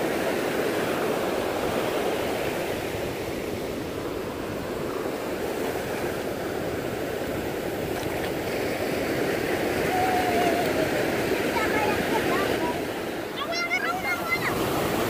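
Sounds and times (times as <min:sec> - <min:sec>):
sea surf washing over beach: 0:00.0 - 0:15.0.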